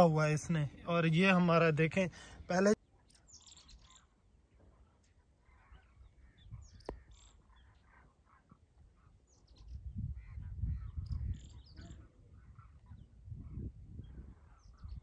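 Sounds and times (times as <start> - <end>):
faint calls of flock of birds: 2.1 - 15.0.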